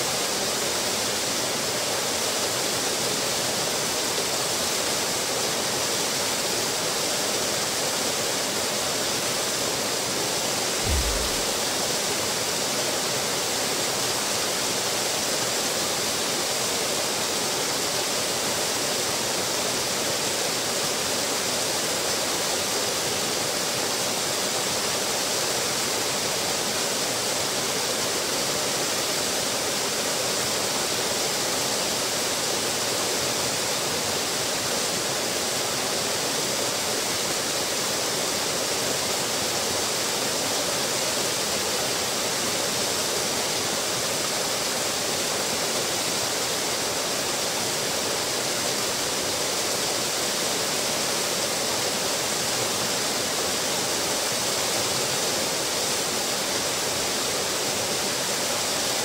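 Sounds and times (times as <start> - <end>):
waterfall pouring into pool: 0.0 - 59.0.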